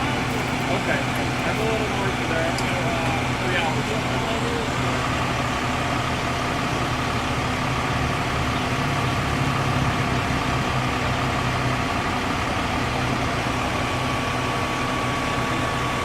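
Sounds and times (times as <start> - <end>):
fire truck engine idling: 0.0 - 16.0.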